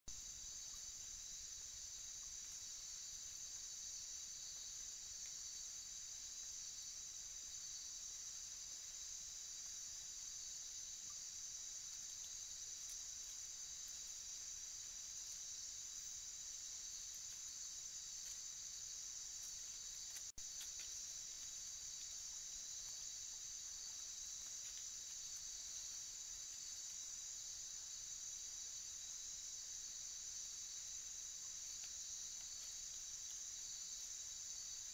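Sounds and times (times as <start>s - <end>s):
insect chorus trilling: 0.1s - 34.9s.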